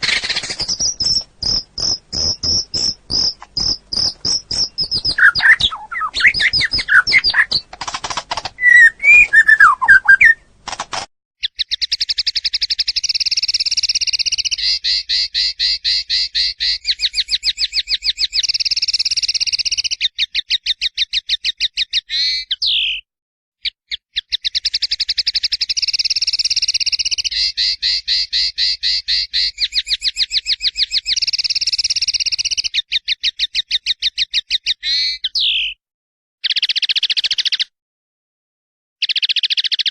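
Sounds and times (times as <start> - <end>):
songbird trilling song: 0.0 - 7.8, 8.5 - 10.5, 11.4 - 23.0, 23.7 - 35.8, 36.4 - 37.7, 39.0 - 39.9.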